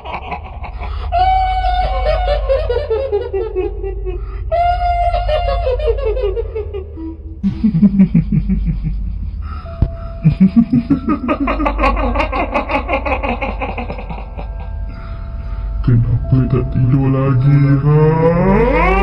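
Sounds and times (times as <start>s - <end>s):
deep pulsed laughs: 0.0s - 19.0s
high ghostly cackle: 0.0s - 19.0s
steady low drone: 0.0s - 19.0s.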